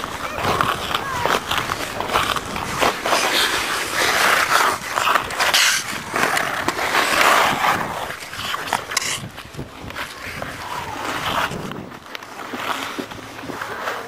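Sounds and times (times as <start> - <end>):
ice skates scraping on ice: 0.0 - 14.0.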